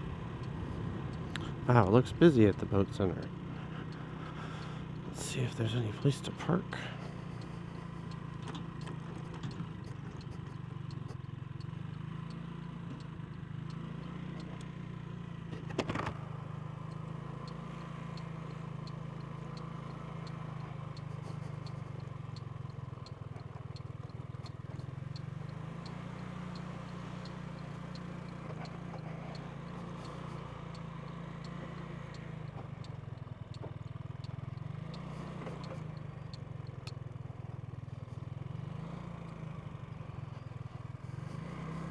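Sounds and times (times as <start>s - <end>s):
scooter engine running at low revs: 0.0s - 41.9s.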